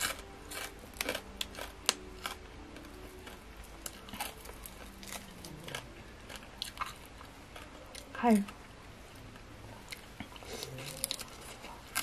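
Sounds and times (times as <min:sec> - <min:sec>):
quiet chewing: 0:00.0 - 0:12.0.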